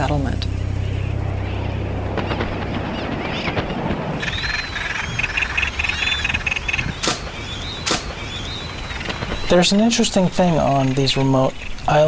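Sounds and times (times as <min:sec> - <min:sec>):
seabird colony calling: 0:00.0 - 0:12.0.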